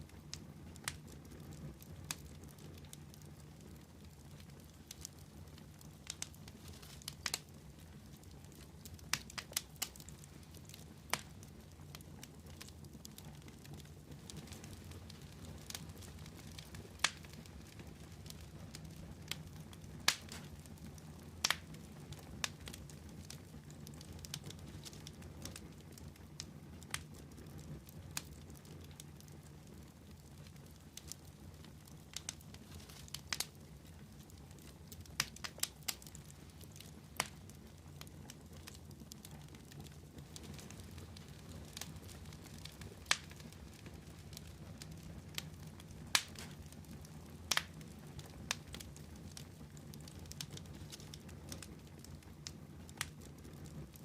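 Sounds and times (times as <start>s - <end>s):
burning wood crackling and popping: 0.0s - 54.0s
low rumble of flames: 0.0s - 54.0s.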